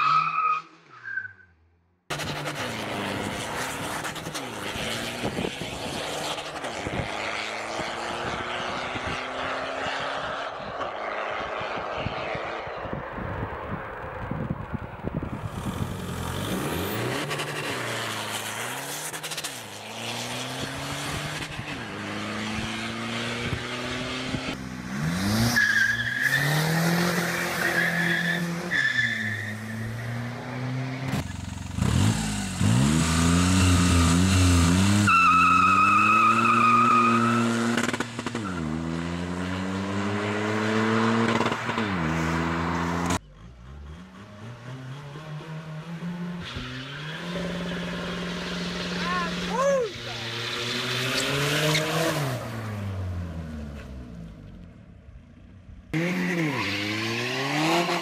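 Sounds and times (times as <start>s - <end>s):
cars accelerating hard: 2.1s - 54.4s, 55.9s - 58.0s.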